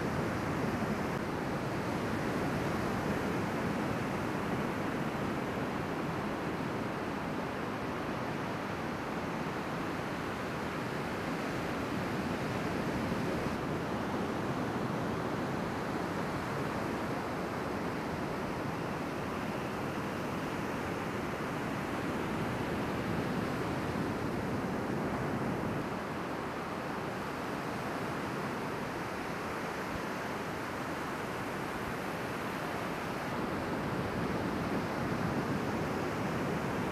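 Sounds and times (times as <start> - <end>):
ocean surf washing: 0.0 - 36.9.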